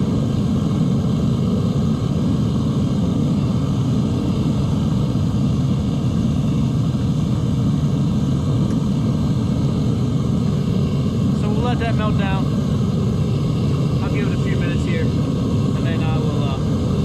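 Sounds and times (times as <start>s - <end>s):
furnace burner rushing: 0.0s - 17.0s.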